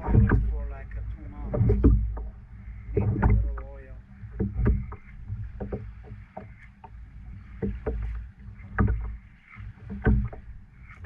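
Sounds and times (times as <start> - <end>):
low uneven thumping: 0.0 - 11.0.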